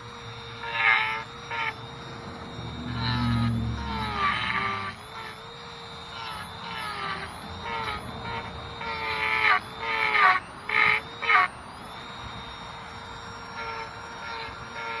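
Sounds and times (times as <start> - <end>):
power tool motor running: 0.0 - 15.0.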